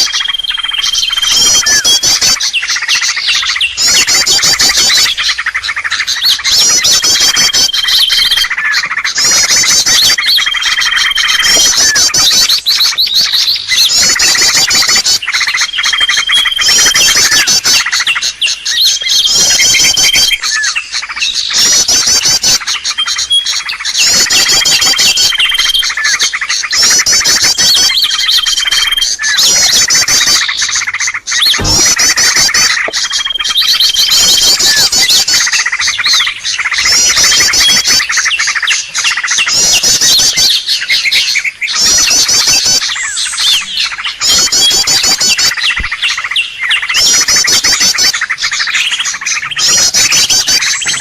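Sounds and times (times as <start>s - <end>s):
small birds chirping and trilling: 0.0s - 51.0s.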